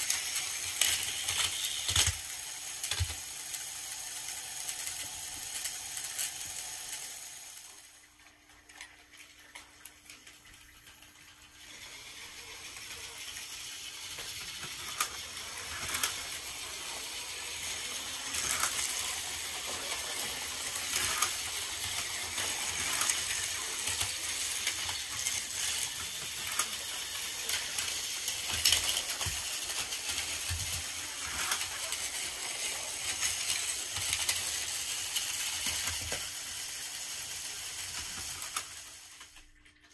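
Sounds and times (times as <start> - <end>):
clicks of toy trains on track: 0.0 - 39.9
toy train motors whirring: 0.0 - 39.9.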